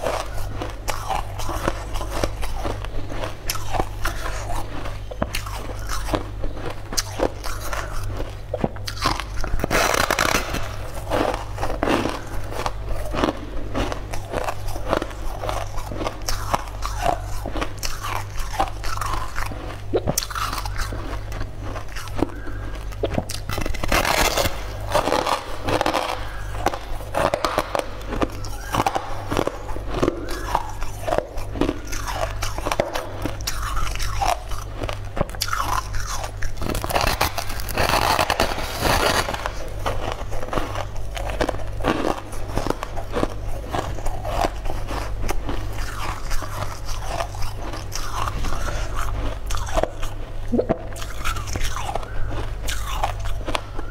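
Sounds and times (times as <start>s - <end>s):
crunchy chewing of cookie: 0.0s - 53.9s.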